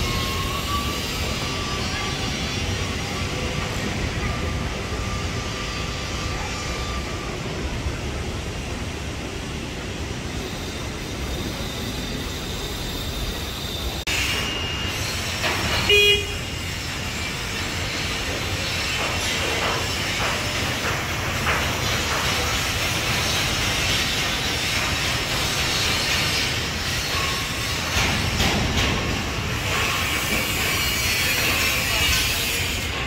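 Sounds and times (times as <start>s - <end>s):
construction site rumble and hiss: 0.0s - 33.0s.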